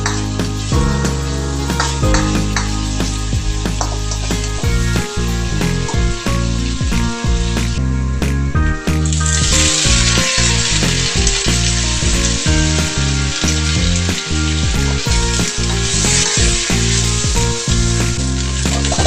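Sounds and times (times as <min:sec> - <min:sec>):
food sizzling in a hot pan: 0:00.0 - 0:07.9, 0:09.0 - 0:19.0
background music with steady beat: 0:00.0 - 0:19.0.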